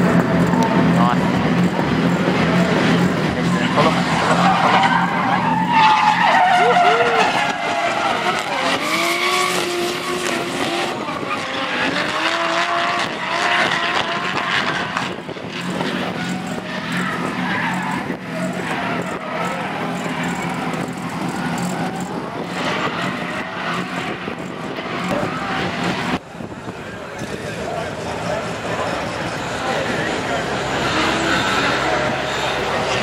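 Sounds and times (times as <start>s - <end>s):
car engines revving: 0.0s - 33.0s
tyres skidding and squealing: 0.0s - 33.0s.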